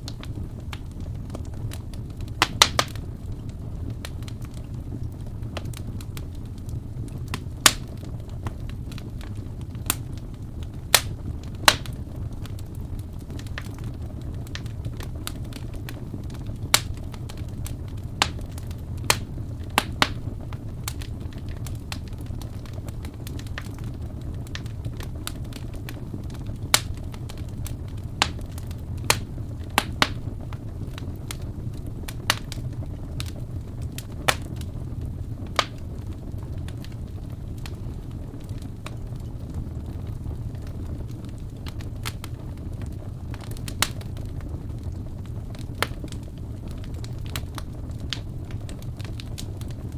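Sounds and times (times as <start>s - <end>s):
fire crackling and popping: 0.0s - 49.9s
wood fire rumbling: 0.0s - 49.9s.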